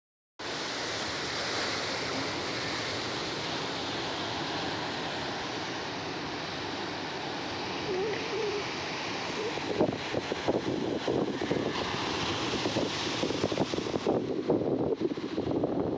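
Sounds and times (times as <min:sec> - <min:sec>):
surf breaking on rocks: 0:00.4 - 0:15.6.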